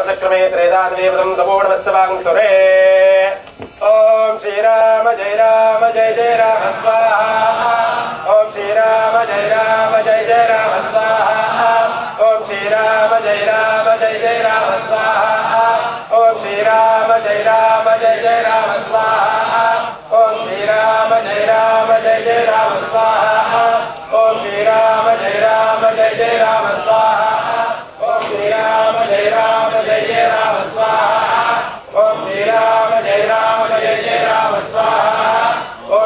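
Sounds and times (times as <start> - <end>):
men chanting in unison: 0.0 - 36.0.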